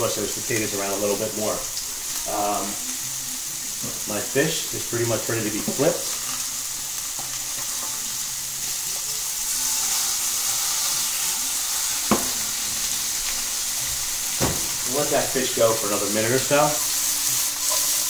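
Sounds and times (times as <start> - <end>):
fish sizzling in a pan: 0.0 - 18.0.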